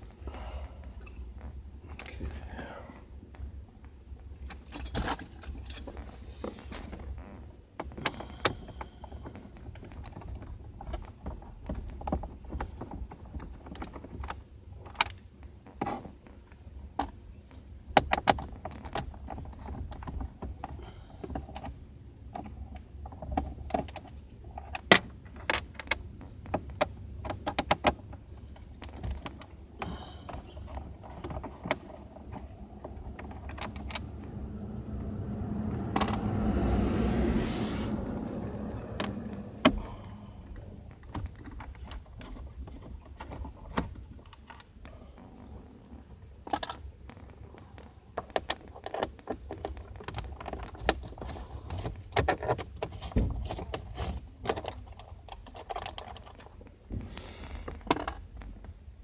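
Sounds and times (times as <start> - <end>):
low steady hum: 0.0 - 52.2.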